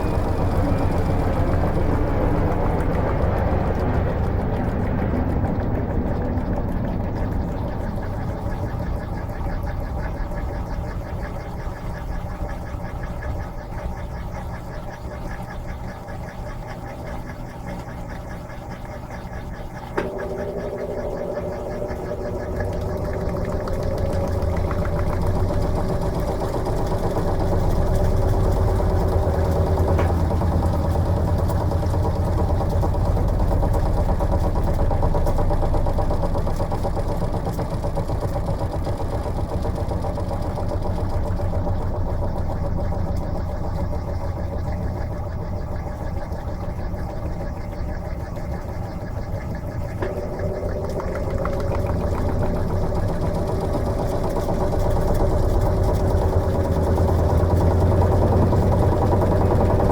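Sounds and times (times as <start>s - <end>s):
steady humming tone: 0.0s - 59.9s
washing machine humming: 0.0s - 59.9s.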